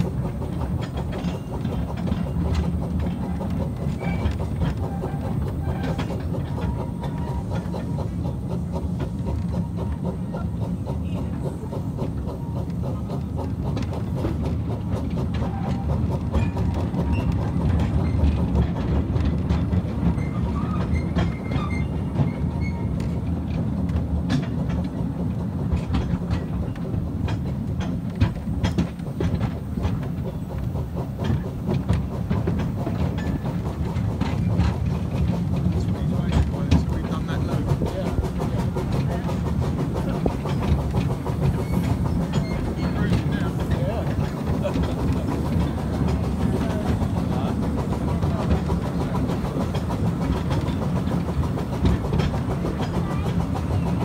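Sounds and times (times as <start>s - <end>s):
clickety-clack over rail joints: 0.0s - 54.0s
train wheels rumbling: 0.0s - 54.0s.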